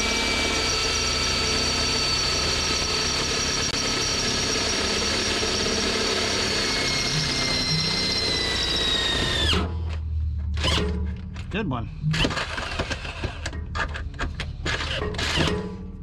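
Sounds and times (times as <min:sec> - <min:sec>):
power drill boring through metal: 0:00.0 - 0:11.0, 0:12.1 - 0:15.9.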